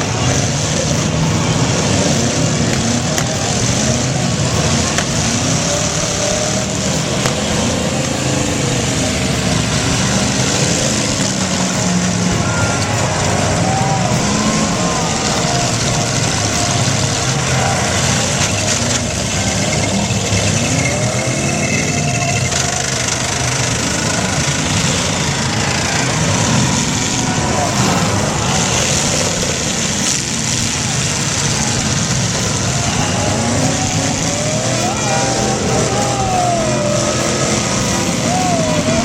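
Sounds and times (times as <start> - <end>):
car engines revving: 0.0 - 39.0
loud mechanical din: 0.0 - 39.0
wavering gliding tone: 0.0 - 39.0.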